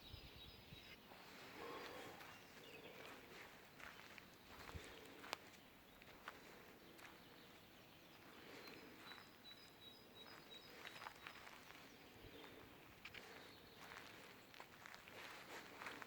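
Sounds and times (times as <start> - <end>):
soft footstep crunches: 1.1 - 7.4, 8.2 - 16.0.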